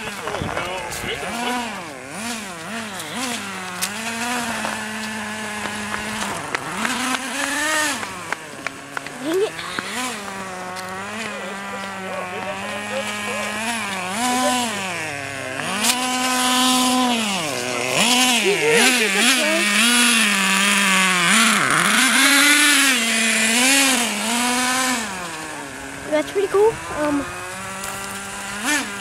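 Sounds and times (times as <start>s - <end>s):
small two-stroke engine revving: 0.0s - 29.0s.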